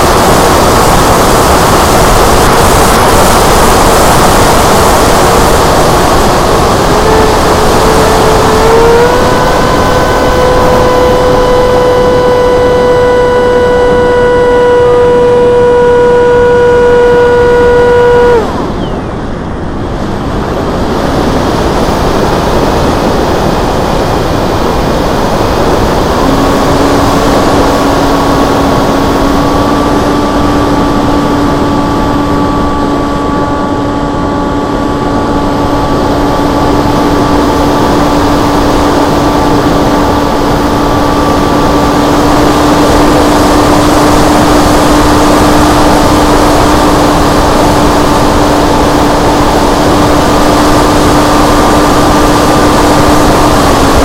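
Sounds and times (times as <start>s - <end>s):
electric motor and propeller whine: 0.0s - 54.0s
rush of airflow: 0.0s - 54.0s.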